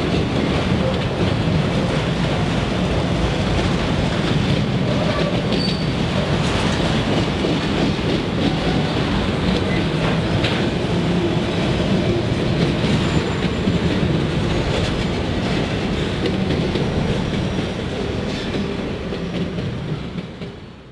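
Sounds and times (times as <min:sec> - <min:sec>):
rail clicks: 0:00.0 - 0:20.9
train wheels rumbling on rail: 0:00.0 - 0:20.9.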